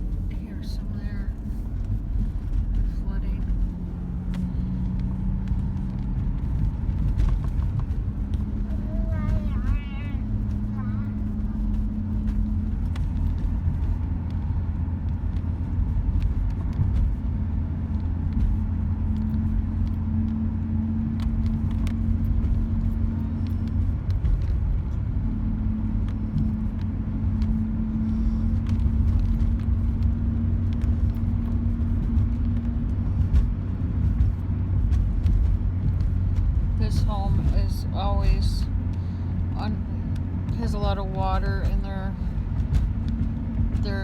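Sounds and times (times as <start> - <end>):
car engine and tyre rumble: 0.0 - 44.0
constant hum: 0.0 - 44.0.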